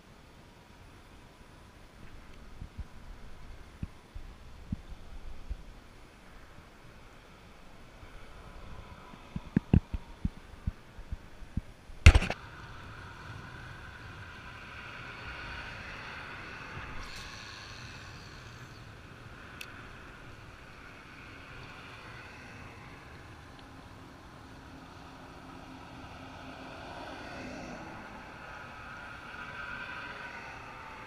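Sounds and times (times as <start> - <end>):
steady rushing noise: 0.1 - 31.0.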